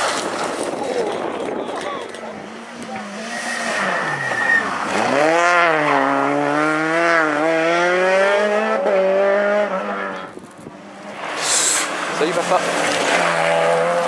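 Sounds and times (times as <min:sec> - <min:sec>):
rally car engine under load: 0:00.0 - 0:14.0.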